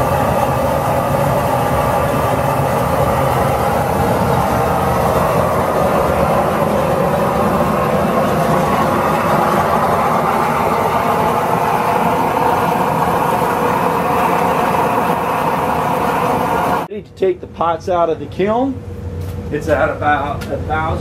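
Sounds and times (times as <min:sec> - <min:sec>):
gas burner flame roaring: 0:00.0 - 0:21.0.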